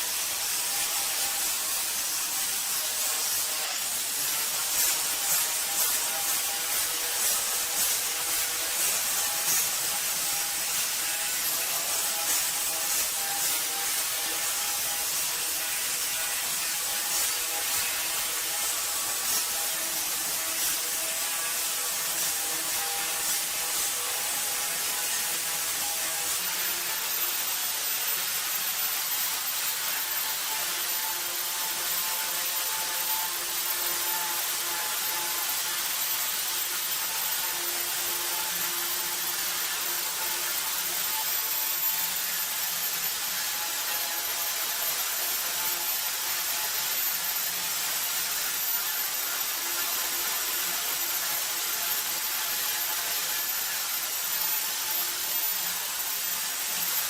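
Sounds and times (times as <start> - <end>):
power tool hissing: 0.0 - 57.0.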